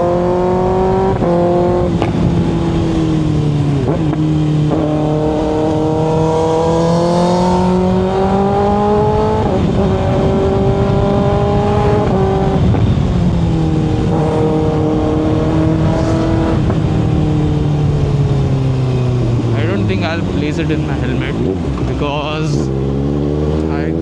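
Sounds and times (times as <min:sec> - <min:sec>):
low wind rumble: 0:00.0 - 0:24.0
motorcycle engine accelerating: 0:00.0 - 0:24.0.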